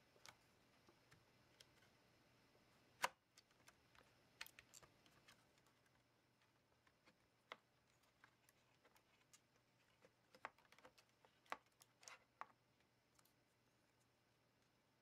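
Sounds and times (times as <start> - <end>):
small clicks and light taps: 0.1 - 1.9, 3.0 - 14.8.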